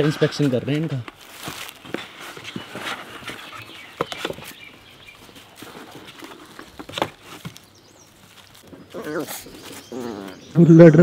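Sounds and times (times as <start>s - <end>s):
puppy paws rustling on leaves: 0.0s - 10.5s.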